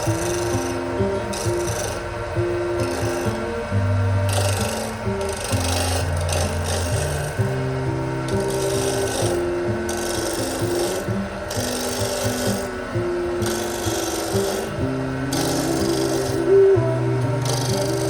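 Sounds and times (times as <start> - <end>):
rhythmic rasping strokes: 0.0 - 18.0
soft background music: 0.0 - 18.0.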